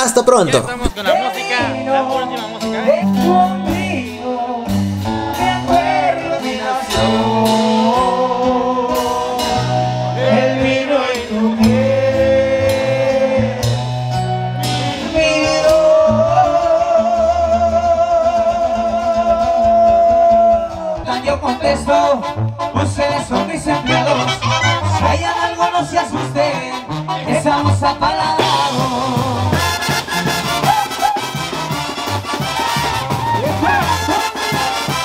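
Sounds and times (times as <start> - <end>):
song with guitar and singing: 0.0 - 35.0.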